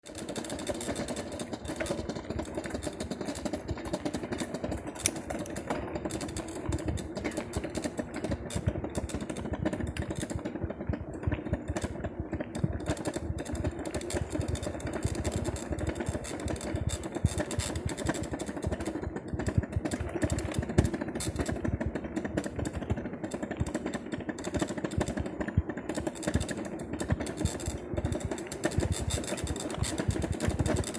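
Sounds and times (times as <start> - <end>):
rapid irregular clicking: 0.0 - 30.9
electric bicycle motor hum: 0.1 - 30.9.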